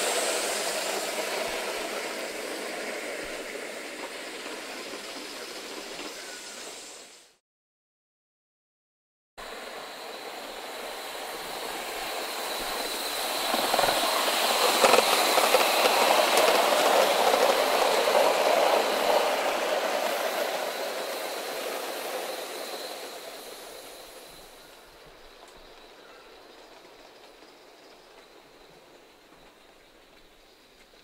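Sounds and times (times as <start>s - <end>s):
model steam train running on rails: 0.0s - 7.4s, 9.4s - 31.0s.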